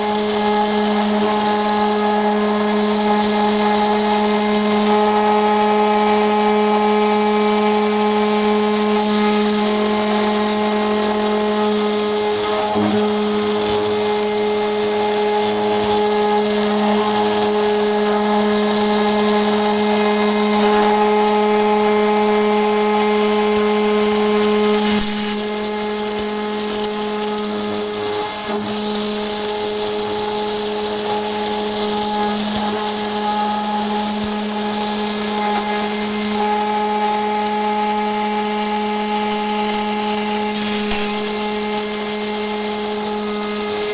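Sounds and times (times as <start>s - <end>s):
end mill cutting aluminium: 0.0s - 43.9s
router spindle whine: 0.0s - 43.9s.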